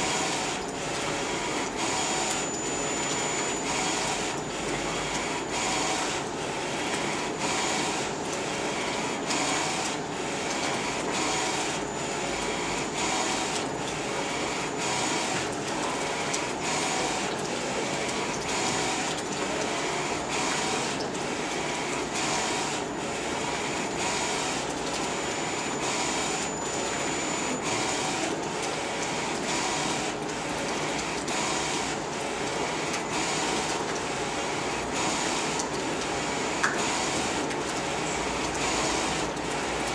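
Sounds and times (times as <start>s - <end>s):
printer carriage running back and forth: 0.0s - 39.9s.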